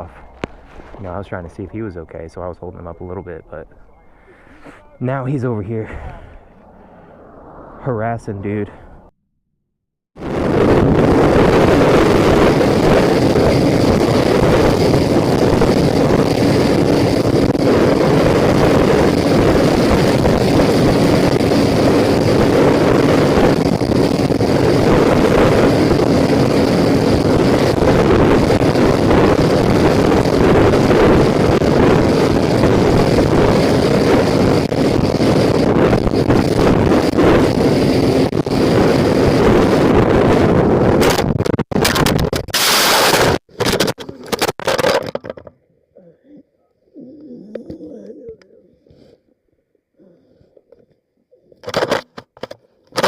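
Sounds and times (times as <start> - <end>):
wind rushing over microphone: 0.0 - 9.1, 10.2 - 44.5.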